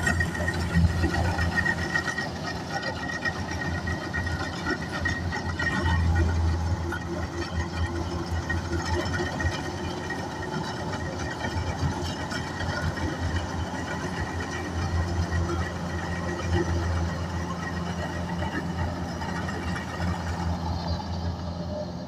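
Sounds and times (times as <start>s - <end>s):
combine harvester engine droning: 0.0s - 22.0s.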